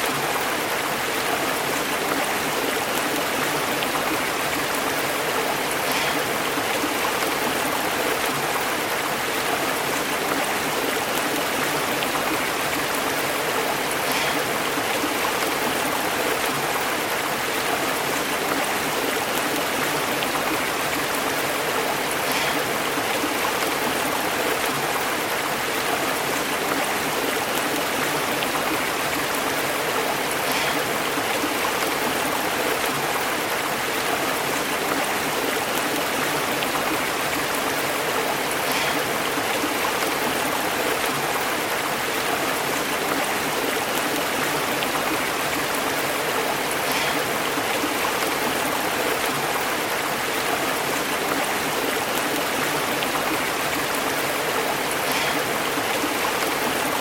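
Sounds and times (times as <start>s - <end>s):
stream burbling over rocks: 0.0s - 57.0s.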